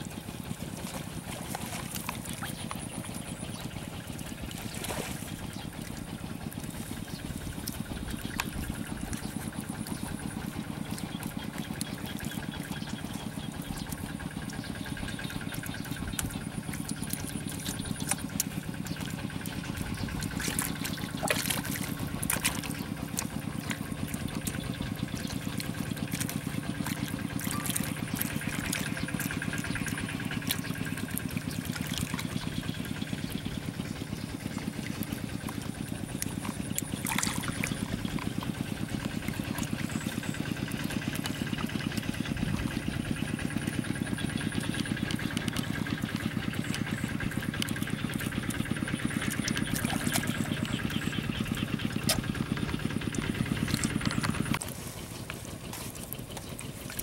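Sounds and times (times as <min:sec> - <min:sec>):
engine idling: 0:00.0 - 0:57.0
hands squelching in mud: 0:00.0 - 0:57.0.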